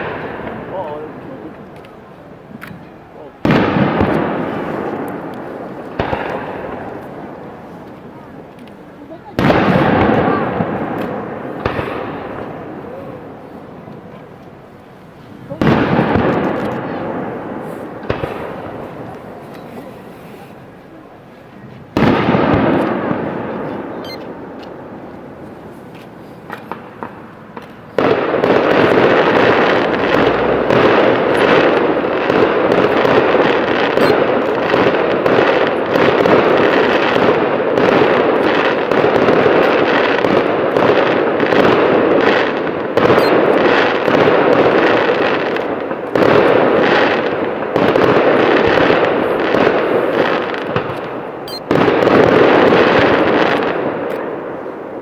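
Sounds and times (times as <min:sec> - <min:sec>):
barrage of fireworks bangs crackling: 0:00.0 - 0:55.0
fireworks bursting: 0:00.0 - 0:55.0
fireworks cracks: 0:00.0 - 0:55.0.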